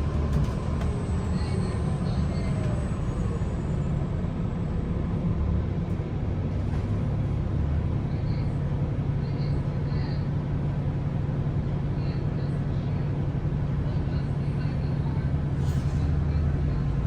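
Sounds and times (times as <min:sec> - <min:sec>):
bus engine low rumble: 0:00.0 - 0:17.0.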